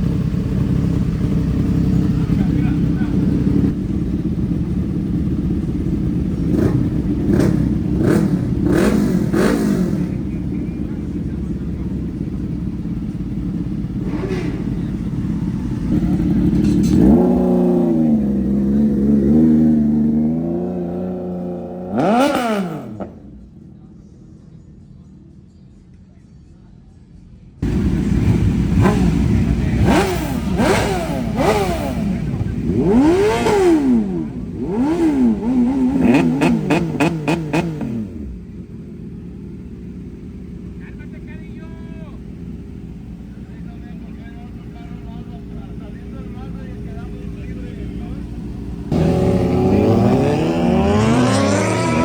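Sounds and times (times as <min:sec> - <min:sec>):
motorcycle engine revving: 0:00.0 - 0:23.8, 0:27.6 - 0:52.0.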